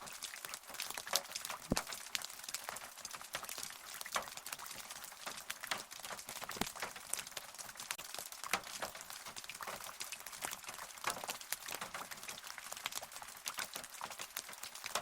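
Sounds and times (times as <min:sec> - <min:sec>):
close drops and drips: 0:00.0 - 0:15.0
rain falling: 0:00.0 - 0:15.0.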